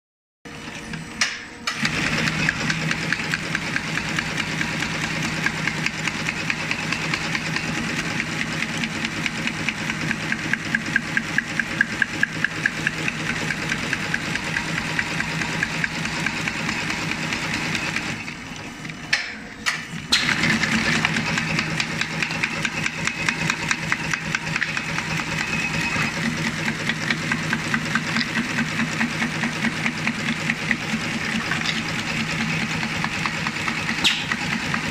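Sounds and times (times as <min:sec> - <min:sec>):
tufting machine clacking strokes: 0:01.2 - 0:18.4, 0:19.1 - 0:34.9.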